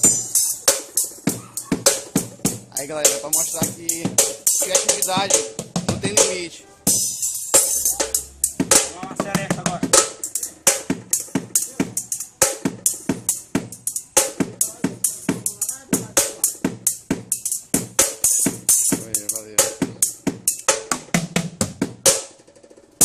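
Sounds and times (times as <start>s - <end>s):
bucket drums beating: 0.0s - 23.0s.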